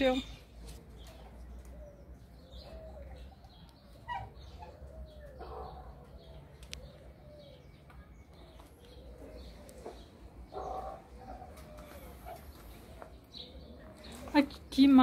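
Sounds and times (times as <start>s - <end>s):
birds making low arching calls: 0.0s - 14.8s.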